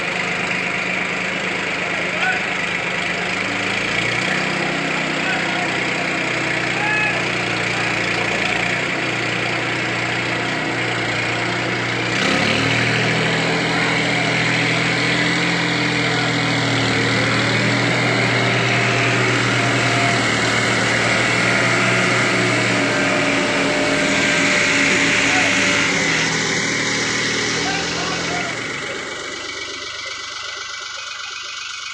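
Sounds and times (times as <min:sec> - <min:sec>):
diesel tractor engines under load: 0:00.0 - 0:31.9.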